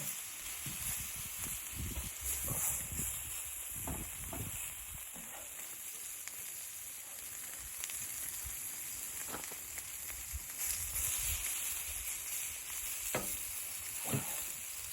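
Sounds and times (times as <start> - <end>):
sizzling hiss: 0.0 - 14.9
small crackles: 0.0 - 14.9.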